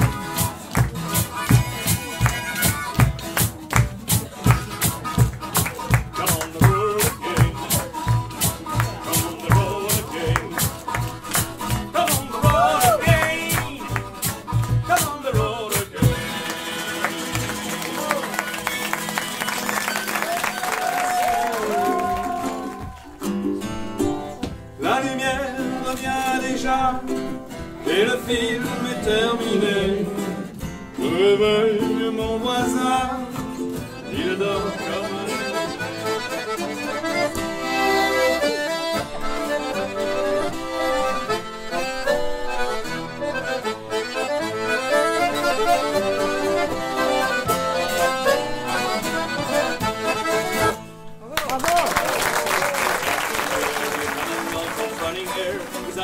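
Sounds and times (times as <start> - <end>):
button accordion: 0.0 - 20.2, 24.3 - 51.2
twelve-string acoustic guitar: 0.0 - 20.5, 21.4 - 51.4, 53.4 - 56.0.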